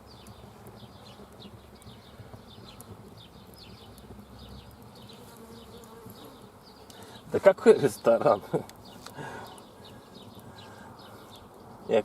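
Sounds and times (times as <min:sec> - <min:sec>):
campfire crackle: 0:00.0 - 0:12.0
small birds chirping: 0:00.0 - 0:12.0.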